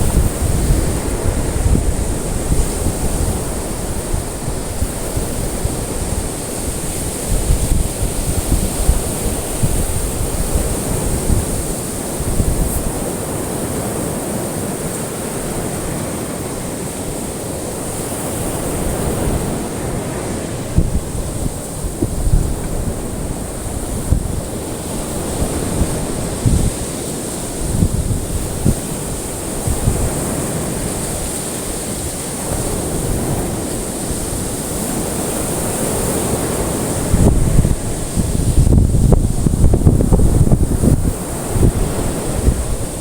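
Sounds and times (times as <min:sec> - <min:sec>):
ocean surf washing: 0:00.0 - 0:43.0.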